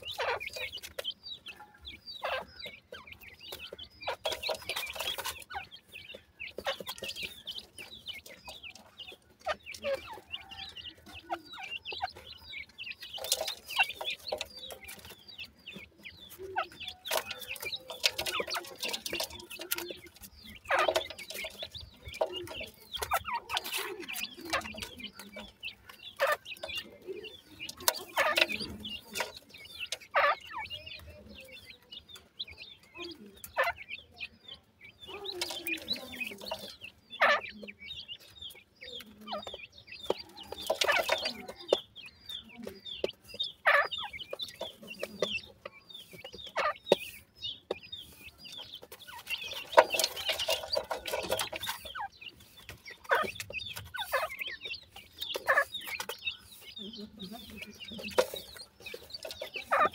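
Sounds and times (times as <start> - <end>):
chicks peeping: 0.0 - 59.9
pecking and scratching in soil: 0.0 - 59.9.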